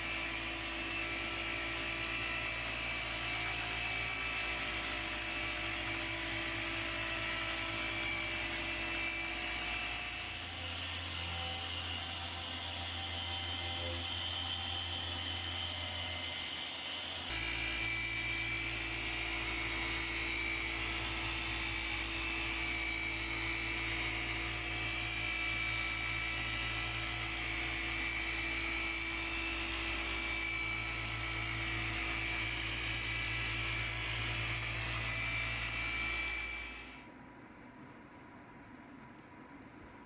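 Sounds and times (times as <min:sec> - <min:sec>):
machine polisher whining: 0:00.0 - 0:37.1.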